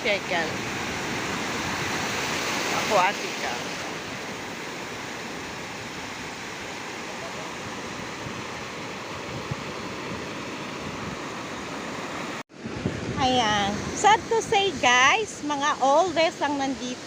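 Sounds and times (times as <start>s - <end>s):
sea surf washing on beach: 0.0s - 17.0s.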